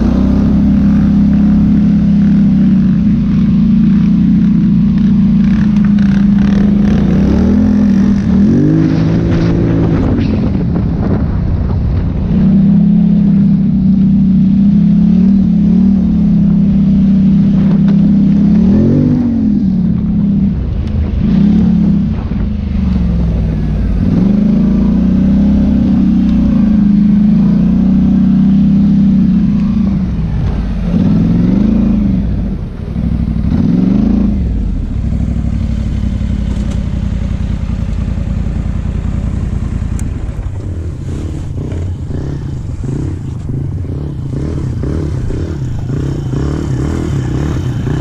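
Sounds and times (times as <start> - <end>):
atv engine revving: 0.0 - 11.4, 12.2 - 48.0.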